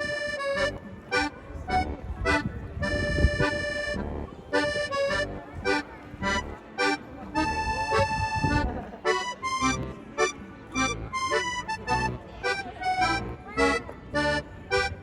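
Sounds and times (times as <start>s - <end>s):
light background tune: 0.0s - 15.0s.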